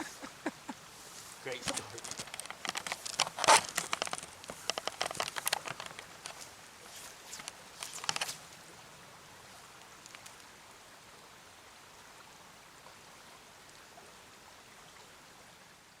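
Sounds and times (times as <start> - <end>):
mountain stream running: 0.0 - 16.0.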